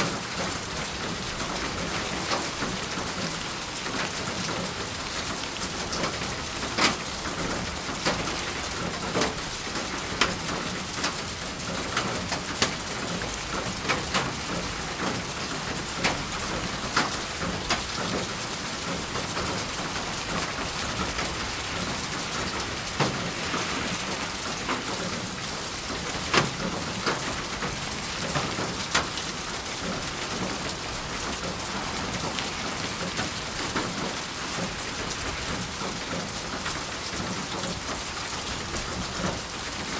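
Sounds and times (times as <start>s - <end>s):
raindrops hitting a surface: 0.0s - 39.9s
rain hissing: 0.2s - 39.9s.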